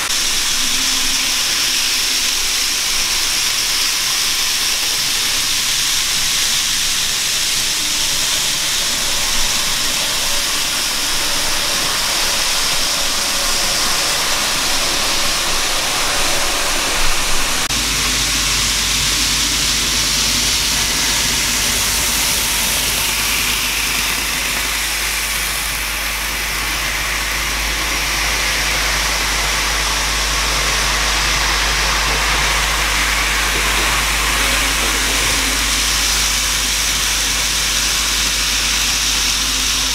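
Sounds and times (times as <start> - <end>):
model trains whirring on track: 0.0 - 39.9.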